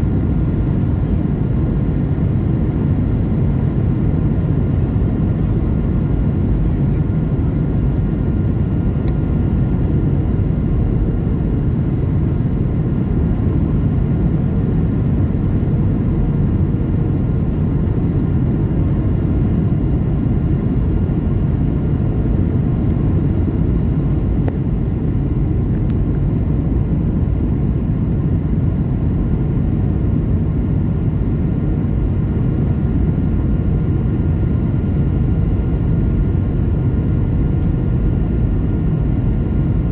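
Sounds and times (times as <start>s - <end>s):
airplane cabin engine rumble: 0.0s - 39.9s
faint steady whine: 0.0s - 39.9s.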